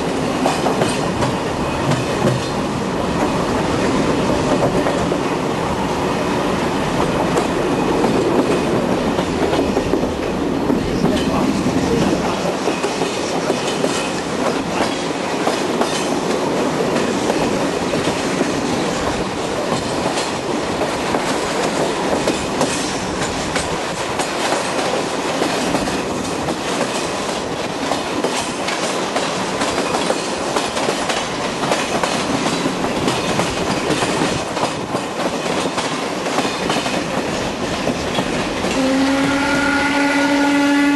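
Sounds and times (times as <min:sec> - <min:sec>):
train wheels clicking over rail joints: 0:00.0 - 0:39.4
train rumble: 0:00.0 - 0:40.9.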